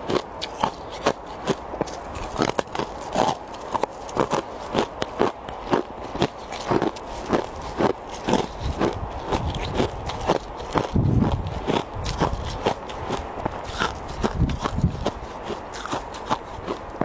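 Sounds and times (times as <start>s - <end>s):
crunching of ice and snow chewed: 0.0s - 17.0s.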